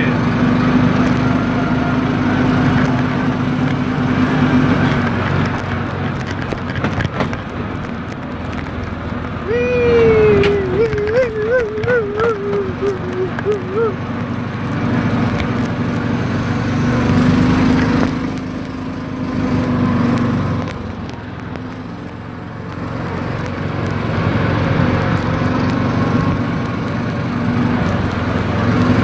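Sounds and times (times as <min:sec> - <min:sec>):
atv engine revving: 0:00.0 - 0:29.0.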